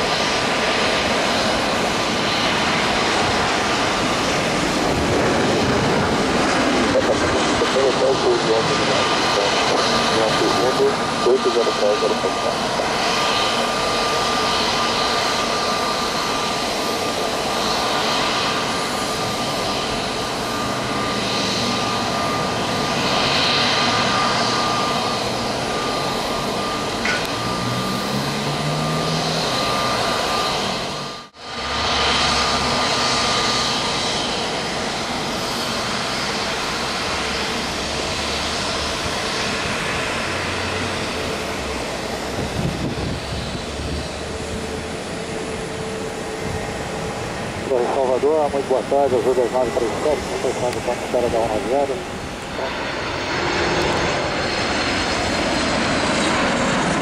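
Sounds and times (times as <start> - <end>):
jet engines whining and rumbling: 0.0 - 57.0.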